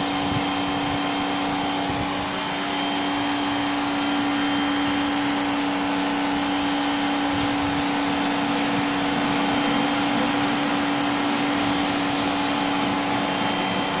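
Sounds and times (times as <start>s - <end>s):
pressure washer motor hum: 0.0s - 14.0s
water jet hissing: 0.0s - 14.0s.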